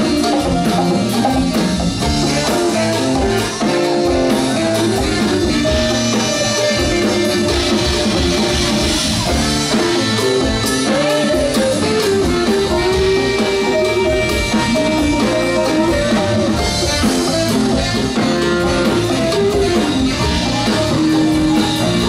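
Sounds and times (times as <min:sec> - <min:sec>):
electric guitar: 0:00.0 - 0:22.0
live funk band playing: 0:00.0 - 0:22.0.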